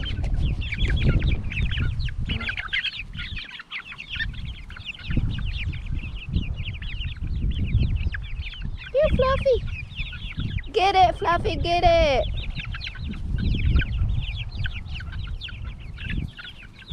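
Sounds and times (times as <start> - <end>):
chickens clucking: 0.0 - 16.9.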